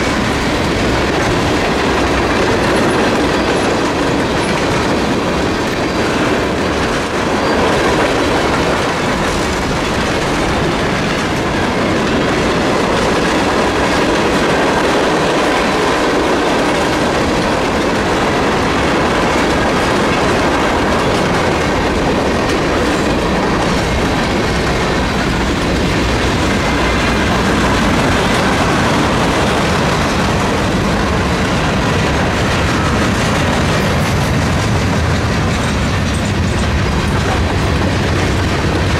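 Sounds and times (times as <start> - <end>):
train wheels rushing on rails: 0.0 - 38.9.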